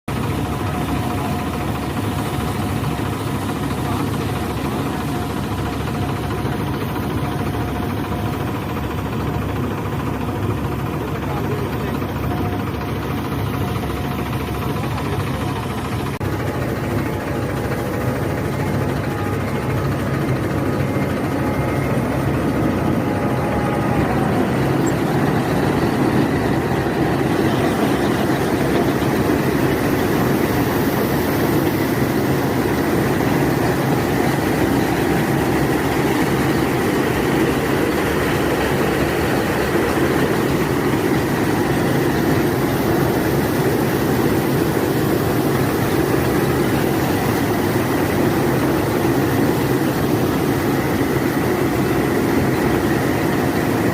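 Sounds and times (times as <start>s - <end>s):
combine harvester engine drone: 0.1s - 53.9s.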